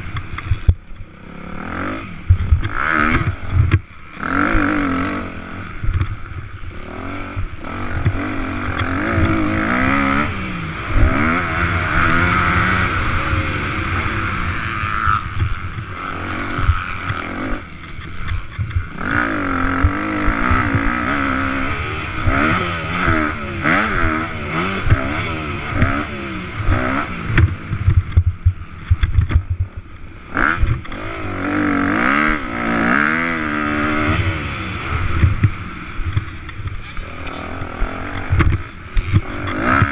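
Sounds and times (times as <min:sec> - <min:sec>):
motocross engine revving: 0:00.0 - 0:28.2, 0:30.2 - 0:39.9
low thumps from rough track: 0:02.2 - 0:31.1, 0:32.3 - 0:39.9.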